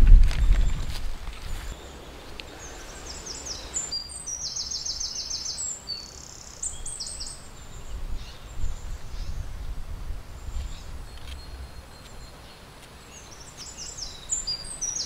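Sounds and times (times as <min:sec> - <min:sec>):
bird singing chirps and trill: 0:01.7 - 0:09.7, 0:10.4 - 0:15.0.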